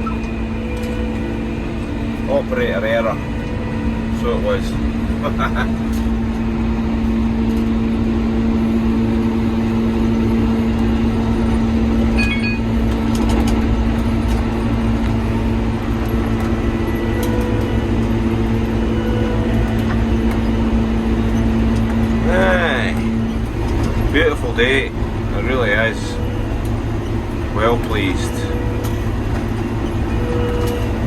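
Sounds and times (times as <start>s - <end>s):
mower engine droning: 0.0s - 31.0s.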